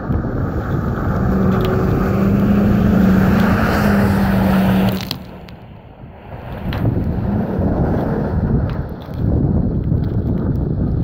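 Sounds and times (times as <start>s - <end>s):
truck engine hum: 0.0s - 10.3s.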